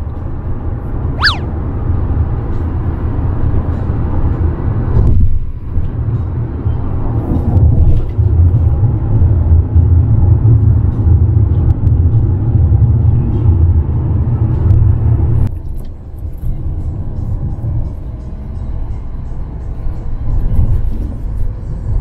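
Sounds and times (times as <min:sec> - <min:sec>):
car cabin road rumble: 0:00.0 - 0:22.0.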